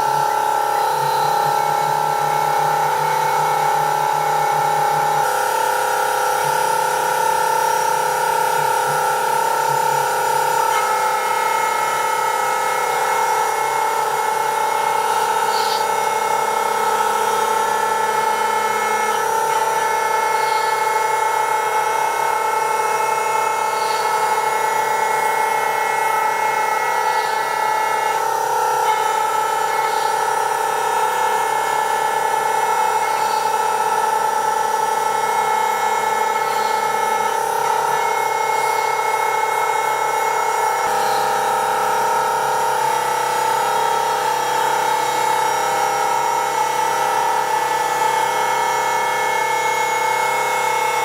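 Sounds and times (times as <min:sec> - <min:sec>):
power tool motor whine: 0:00.0 - 0:51.0.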